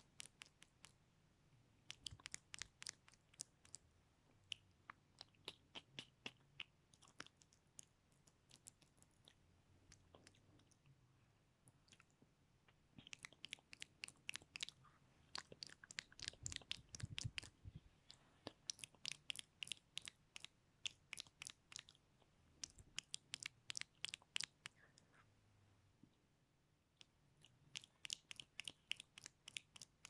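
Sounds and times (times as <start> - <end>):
mouth clicks and pops: 0.0 - 1.0, 1.8 - 10.9, 11.7 - 25.1, 27.0 - 30.0.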